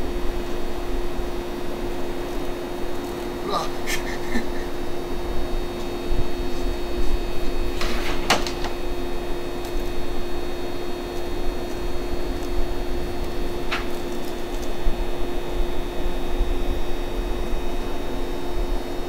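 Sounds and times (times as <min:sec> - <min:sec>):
electric trains humming: 0:00.0 - 0:19.0
high whines from equipment: 0:00.0 - 0:19.0.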